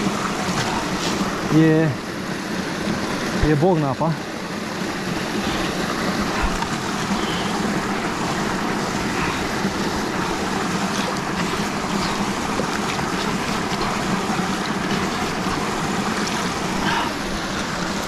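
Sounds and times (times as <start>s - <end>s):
small waterfall splashing: 0.0s - 18.0s.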